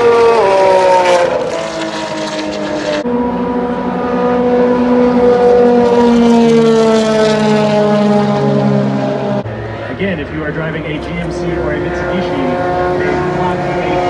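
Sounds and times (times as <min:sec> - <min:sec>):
lower engine note: 0:00.0 - 0:14.0
race car engines passing: 0:00.0 - 0:14.0.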